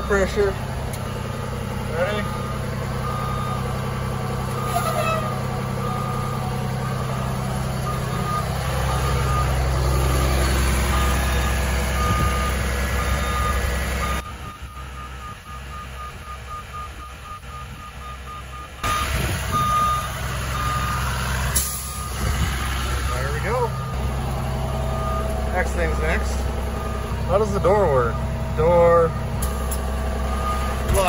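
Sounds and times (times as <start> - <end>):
bus warning alarm beeping: 0.0 - 31.0
diesel bus engine idling: 0.0 - 31.0.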